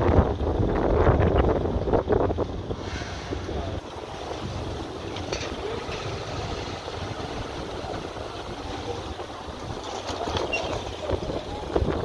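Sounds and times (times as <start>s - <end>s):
motorcycle rumble: 0.0s - 12.0s
street bustle: 0.0s - 12.0s
wind buffeting microphone: 0.0s - 12.0s.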